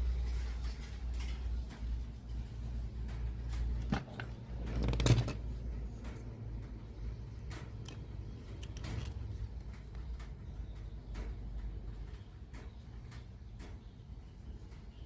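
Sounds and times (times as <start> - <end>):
low steady hum: 0.0 - 15.0
small clicks and knocks: 0.9 - 15.0.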